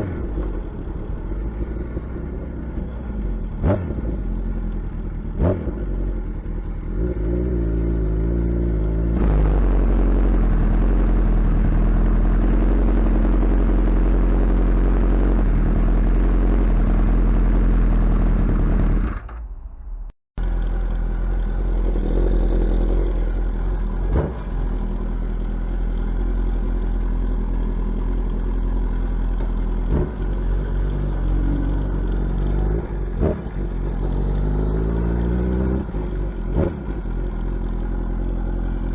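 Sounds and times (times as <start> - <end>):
motorcycle engine through loud exhaust: 0.0 - 19.4, 20.4 - 38.9.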